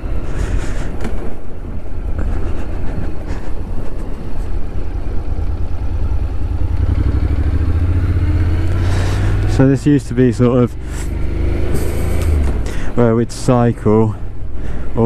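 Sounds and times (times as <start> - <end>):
motorcycle engine rumbling: 1.9 - 14.6.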